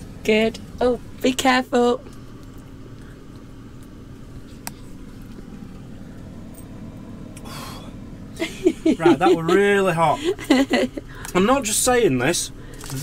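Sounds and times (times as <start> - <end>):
air fryer humming: 0.0 - 13.0.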